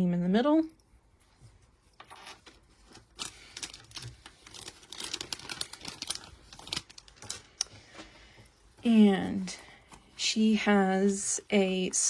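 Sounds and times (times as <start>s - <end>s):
hands handling small doll accessories: 0.7s - 11.6s.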